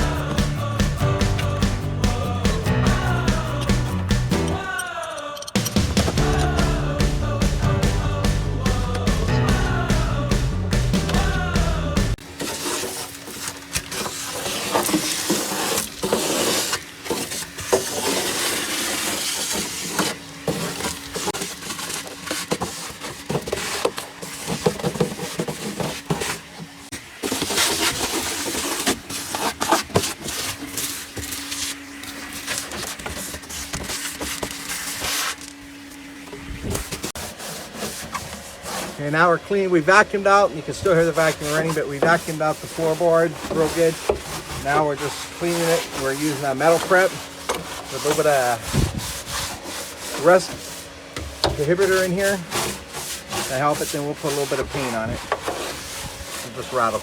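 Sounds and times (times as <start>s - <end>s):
vacuum cleaner running: 0.0s - 4.8s, 5.6s - 57.0s.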